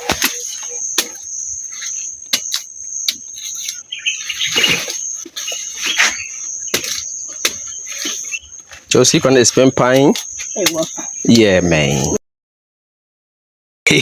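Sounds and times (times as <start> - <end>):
insects droning: 0.0 - 12.2.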